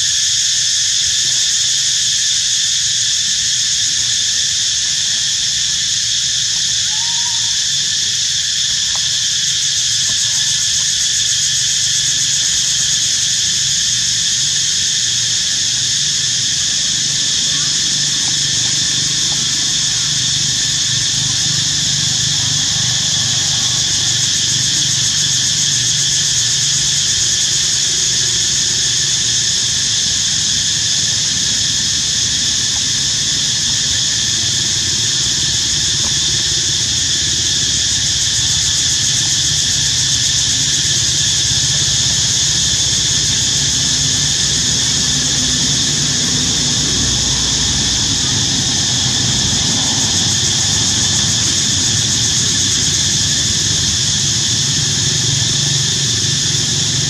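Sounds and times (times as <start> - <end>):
cicada chorus droning: 0.0 - 57.0.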